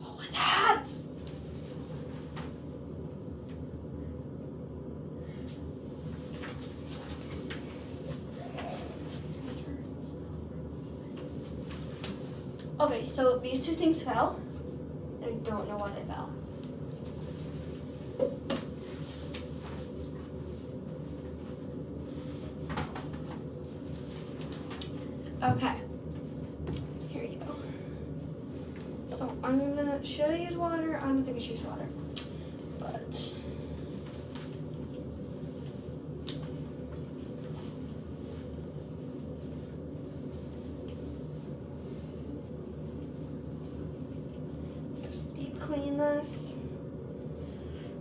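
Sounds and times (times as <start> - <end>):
low room hum: 0.0 - 48.0.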